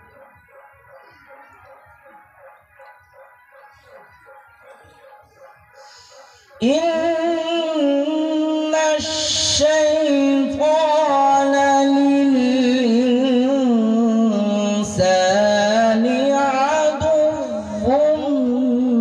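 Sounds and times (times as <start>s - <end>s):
man chanting through microphones: 3.7s - 19.0s.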